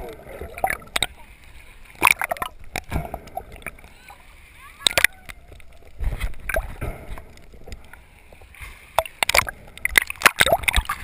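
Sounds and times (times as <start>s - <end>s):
low rumble of moving water: 0.0s - 11.0s
water sloshing and gurgling: 0.0s - 11.0s
water splashing: 0.0s - 11.0s.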